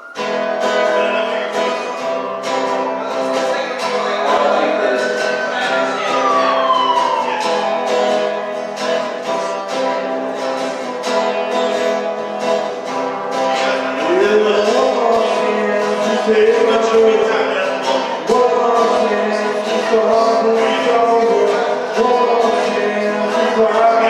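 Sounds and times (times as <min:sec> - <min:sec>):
person singing: 0:00.0 - 0:12.5, 0:13.2 - 0:24.0
acoustic guitar strumming: 0:00.0 - 0:24.0.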